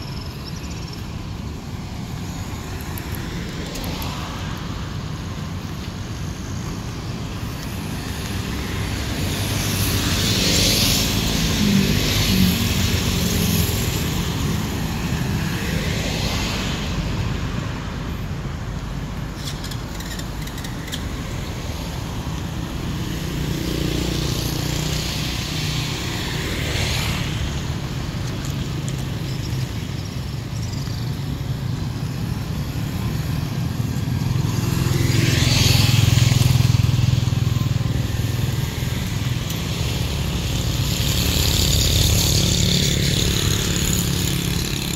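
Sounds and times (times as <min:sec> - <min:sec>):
cars and motorcycles passing: 0:00.0 - 0:44.9.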